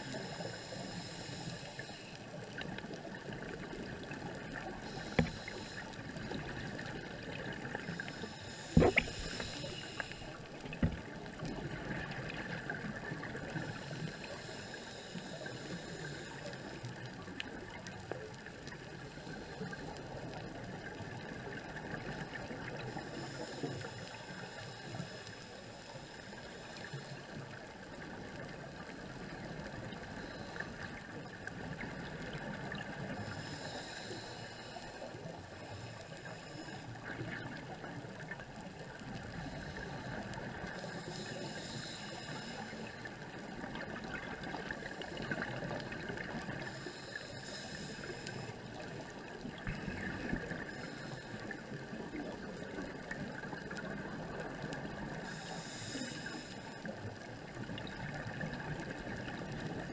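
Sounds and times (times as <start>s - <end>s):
underwater crackling hiss: 0.0s - 59.9s
faint clicks: 0.1s - 59.9s.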